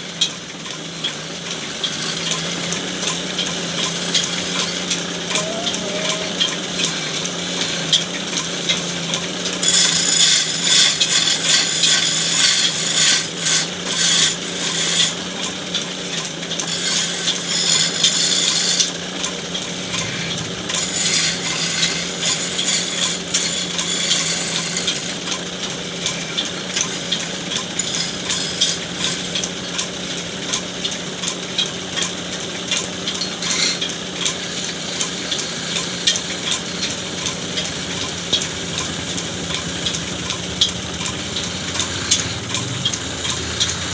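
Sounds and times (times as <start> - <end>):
woodworking machine humming: 0.0 - 43.9
tool scraping and cutting wood: 0.6 - 43.9.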